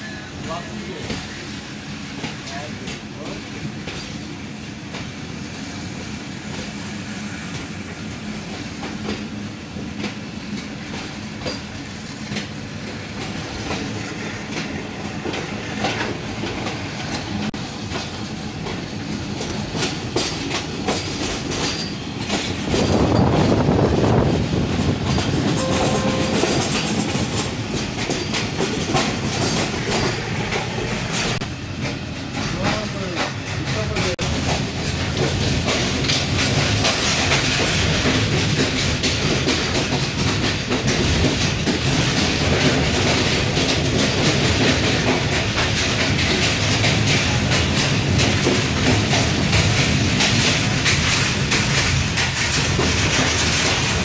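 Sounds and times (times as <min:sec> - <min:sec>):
train rumble: 0:00.0 - 0:54.0
wheels clicking over rail joints: 0:08.5 - 0:54.0.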